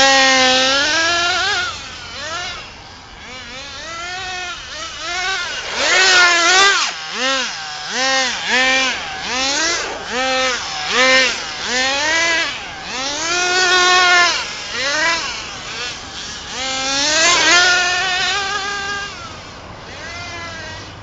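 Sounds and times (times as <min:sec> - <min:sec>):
rc truck engine revving: 0:00.0 - 0:21.0.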